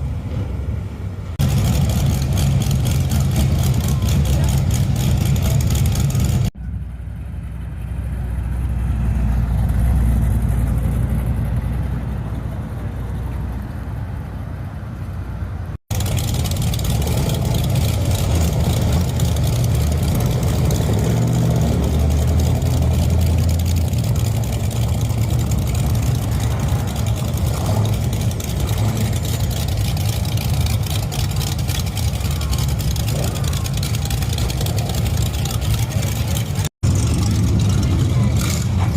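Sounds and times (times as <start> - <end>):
car engines rumbling: 0.0 - 38.9.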